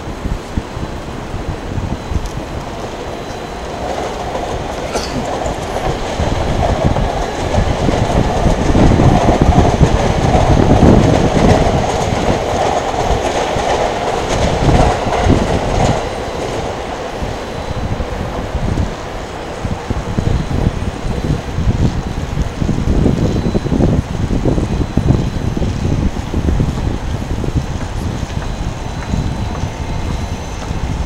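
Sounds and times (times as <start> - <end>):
train running on tracks: 0.0 - 31.0.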